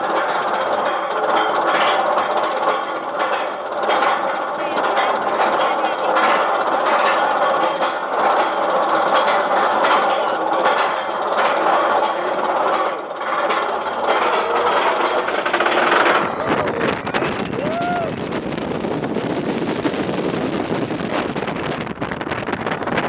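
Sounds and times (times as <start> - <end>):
roller coaster clattering on track: 0.0 - 23.0.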